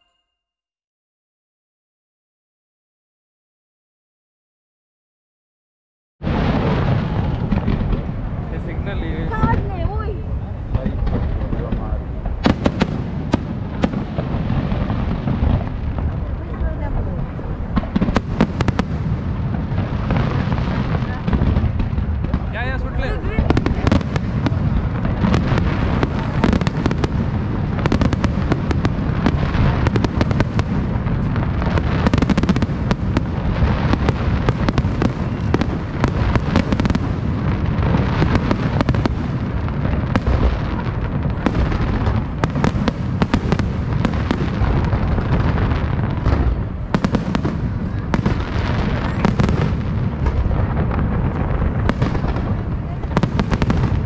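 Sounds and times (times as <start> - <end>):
fireworks bangs and cracks: 6.2 - 54.0.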